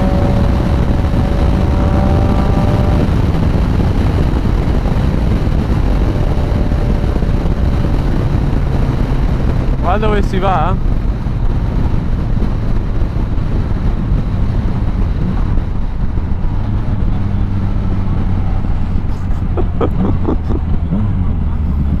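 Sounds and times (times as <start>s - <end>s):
motorcycle engine running: 0.0s - 22.0s
wind noise: 0.0s - 22.0s.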